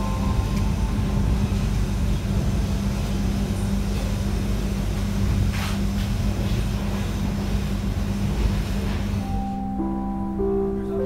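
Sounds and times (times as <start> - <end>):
constant hum: 0.0 - 11.0
train coach low rumble: 0.0 - 11.0.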